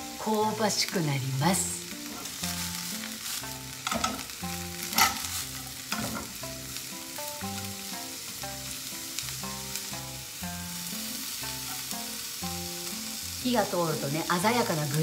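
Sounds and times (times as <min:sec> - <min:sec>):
soft background music: 0:00.0 - 0:15.0
vegetables sizzling in oil: 0:00.0 - 0:15.0.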